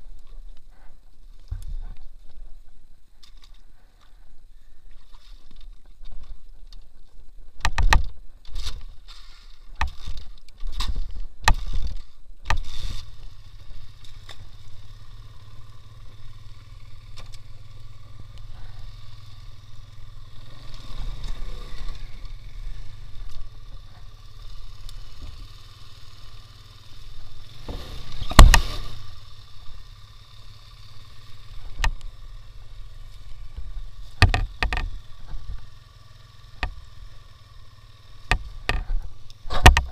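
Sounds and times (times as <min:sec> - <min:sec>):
motorcycle engine running: 0:05.8 - 0:39.9.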